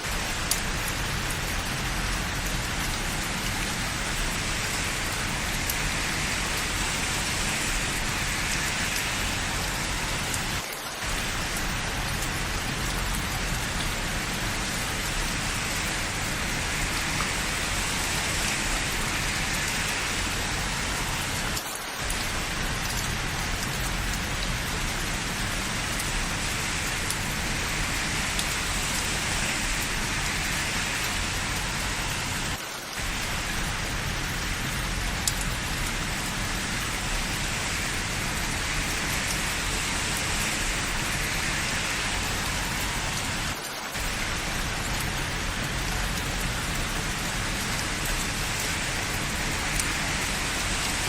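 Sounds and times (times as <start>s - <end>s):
rain on hard surfaces: 0.0s - 51.0s.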